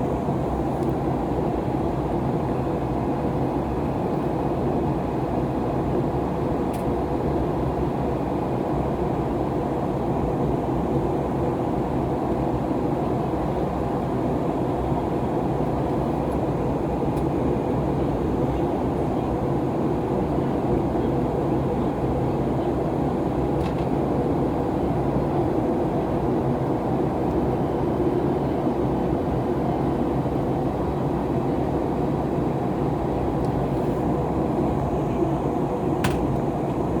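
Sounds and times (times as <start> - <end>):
airplane cabin engine rush: 0.0 - 37.0.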